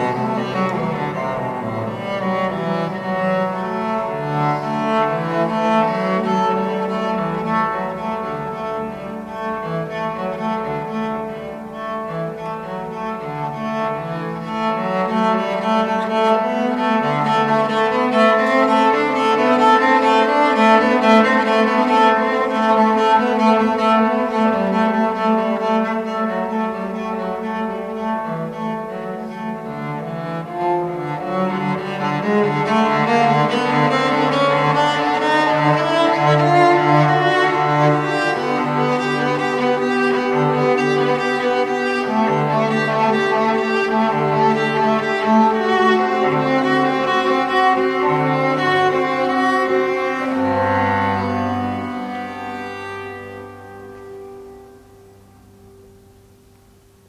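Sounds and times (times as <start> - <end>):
bowed cello: 0.0 - 56.8.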